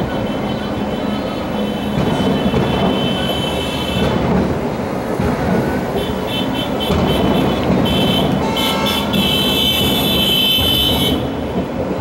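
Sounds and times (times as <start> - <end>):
fireworks bursting and crackling: 1.4 - 12.0.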